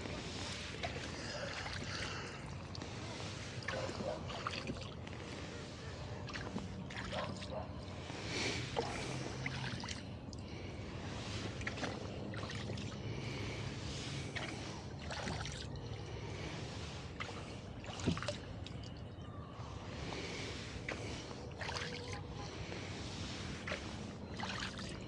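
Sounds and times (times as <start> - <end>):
oars pulling through water: 0.0 - 25.0
water splashing and trickling: 0.0 - 25.0.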